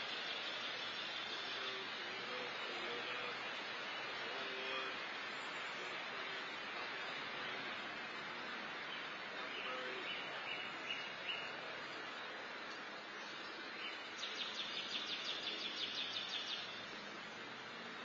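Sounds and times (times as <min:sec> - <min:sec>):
bird chirping: 0:00.0 - 0:07.8, 0:08.8 - 0:11.6, 0:13.1 - 0:17.1
outdoor background hiss: 0:00.0 - 0:18.0.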